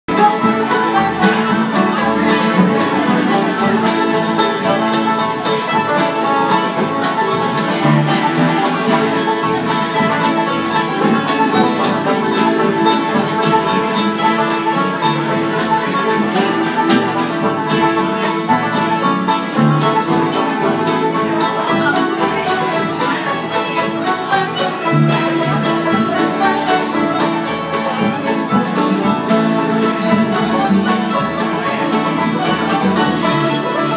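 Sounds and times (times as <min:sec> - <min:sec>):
acoustic guitars strumming: 0:00.1 - 0:33.9
fiddle playing: 0:00.1 - 0:33.9
upright bass: 0:00.1 - 0:33.9.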